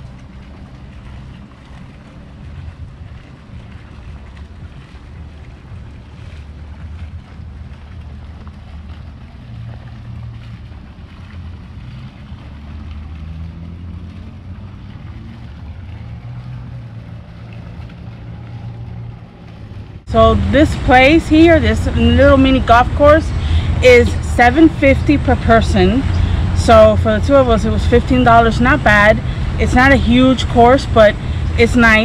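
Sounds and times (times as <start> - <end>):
fountain splashing: 0.0 - 32.0
wind buffeting microphone: 0.0 - 32.0.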